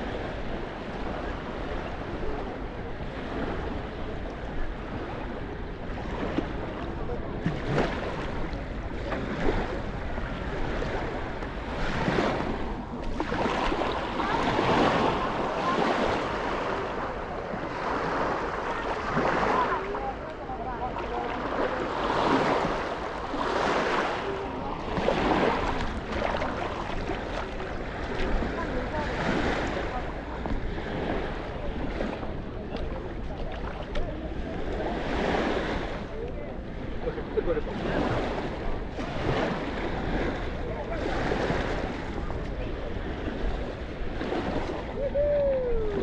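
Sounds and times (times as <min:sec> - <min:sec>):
people talking faintly: 0:00.0 - 0:46.0
waves washing onto a beach: 0:00.0 - 0:46.0
wind on the microphone: 0:00.0 - 0:46.0.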